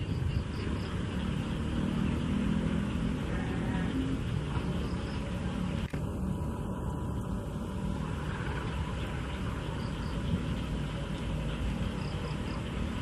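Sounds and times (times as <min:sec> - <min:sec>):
locomotive diesel engine rumble: 0:00.0 - 0:13.0.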